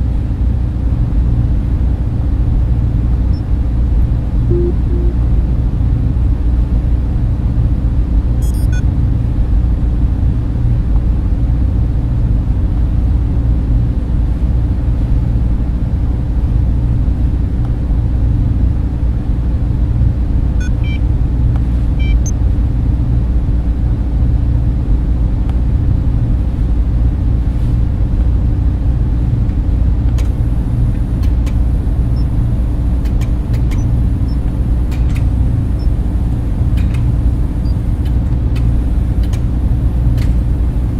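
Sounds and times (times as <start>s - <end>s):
low drone of servers and fans: 0.0s - 40.9s.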